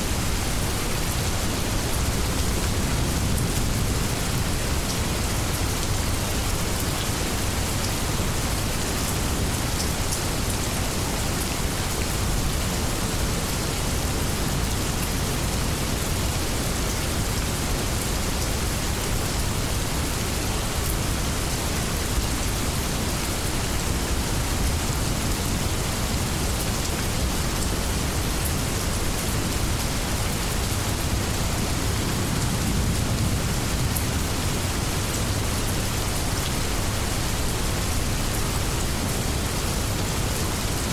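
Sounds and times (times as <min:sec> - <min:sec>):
heavy rain rushing: 0:00.0 - 0:40.9.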